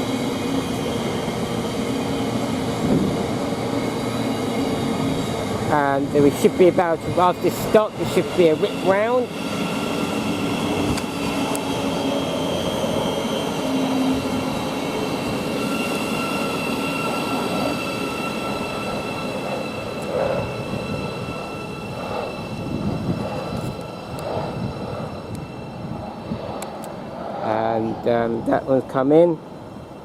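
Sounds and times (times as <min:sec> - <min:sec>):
electric train whine: 0:00.0 - 0:30.0
train rumble: 0:00.0 - 0:30.0.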